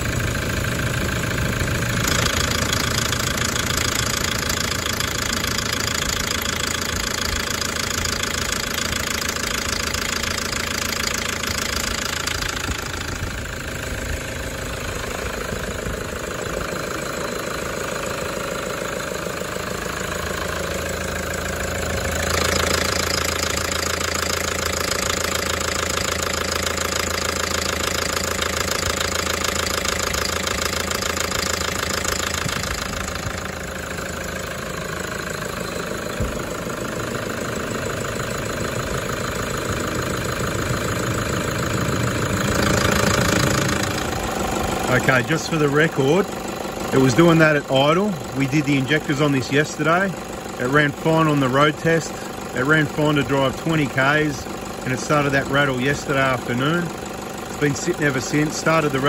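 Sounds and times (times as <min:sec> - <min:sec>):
diesel engine idling: 0:00.0 - 0:59.0
loud metallic engine rattle: 0:00.0 - 0:59.0.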